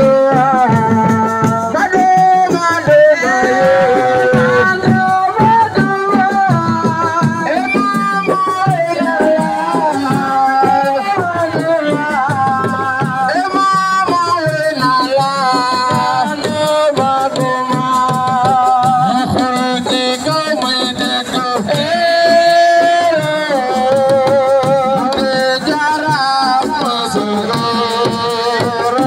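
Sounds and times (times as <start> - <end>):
drums: 0.0 - 29.0
person singing: 0.0 - 29.0.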